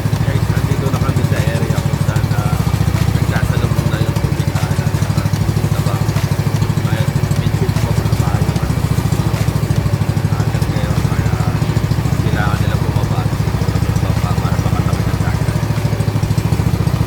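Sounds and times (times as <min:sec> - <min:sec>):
small boat engine chugging: 0:00.0 - 0:17.0.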